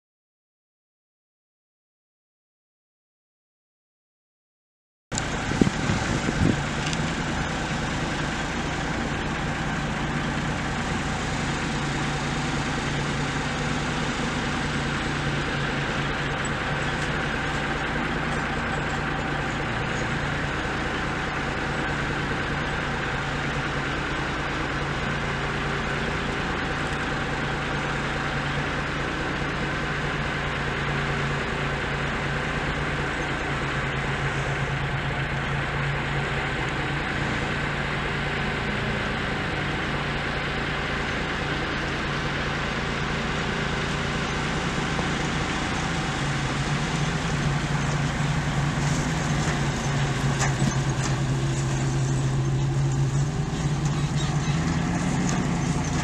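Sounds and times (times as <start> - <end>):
truck engine idling: 5.1 - 56.0.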